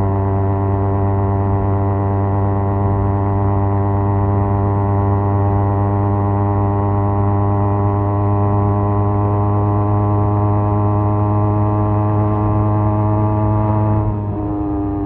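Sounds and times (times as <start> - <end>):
motorcycle exhaust drone: 0.0 - 15.0.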